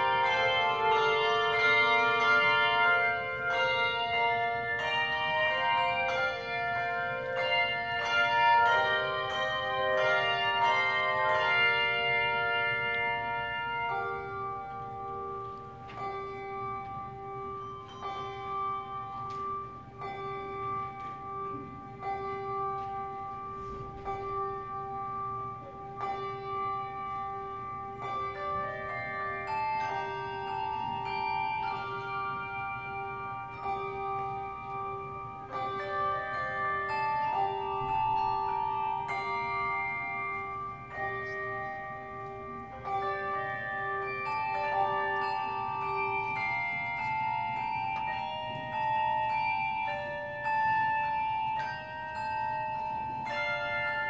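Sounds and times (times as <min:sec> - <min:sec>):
handbell choir ringing a tune: 0:00.0 - 0:54.0
held low bell: 0:00.0 - 0:54.0.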